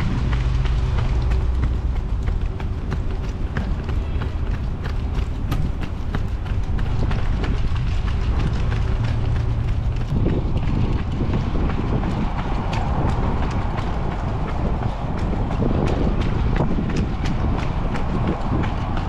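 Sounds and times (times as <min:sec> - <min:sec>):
running footsteps on pavement: 0:00.0 - 0:19.0
wind on microphone: 0:00.0 - 0:19.0.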